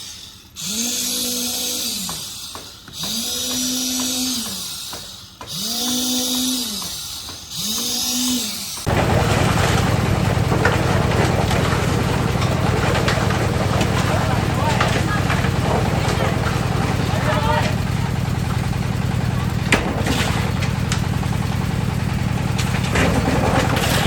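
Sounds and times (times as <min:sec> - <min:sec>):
humming machine noise: 0:00.0 - 0:24.0
power tool whining: 0:00.0 - 0:24.0.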